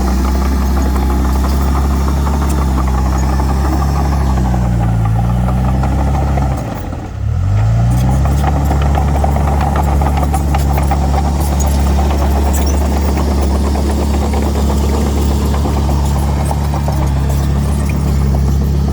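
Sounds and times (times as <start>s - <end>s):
clicks and rattles: 0.0s - 6.8s, 7.9s - 18.9s
bulldozer diesel engine: 0.0s - 18.9s.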